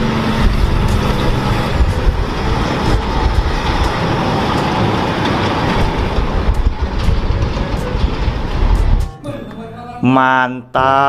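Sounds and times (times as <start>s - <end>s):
truck engine and tyre rumble: 0.0s - 9.3s.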